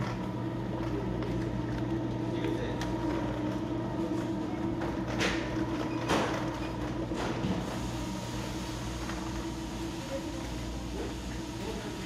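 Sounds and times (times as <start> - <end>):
equipment hum: 0.0 - 12.0.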